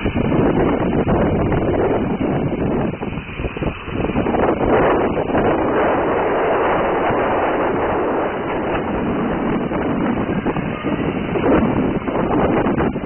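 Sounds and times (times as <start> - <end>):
drone propellers whirring: 0.0 - 13.0
wind buffeting microphone: 0.0 - 13.0.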